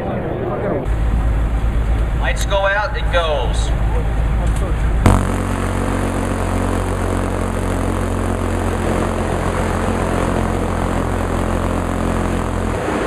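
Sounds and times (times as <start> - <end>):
engine droning with hiss: 0.9 - 13.0.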